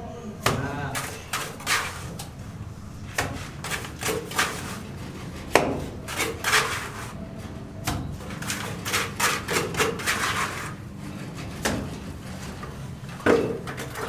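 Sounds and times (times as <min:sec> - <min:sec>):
wood knocking and scraping: 0:00.4 - 0:02.4, 0:03.1 - 0:07.2, 0:07.9 - 0:14.0.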